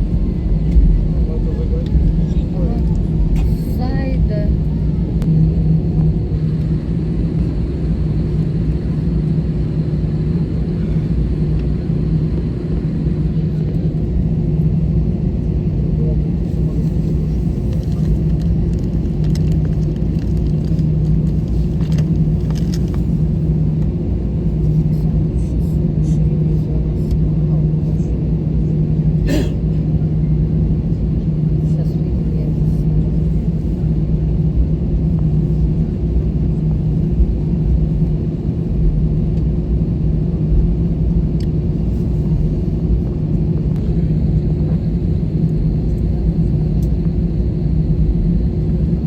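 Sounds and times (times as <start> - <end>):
aircraft cabin drone: 0.0 - 49.0.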